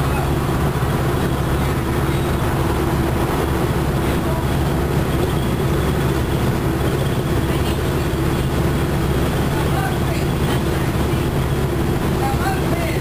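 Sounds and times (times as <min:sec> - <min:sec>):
bus engine humming: 0:00.0 - 0:13.0
road and tyre noise: 0:00.0 - 0:13.0.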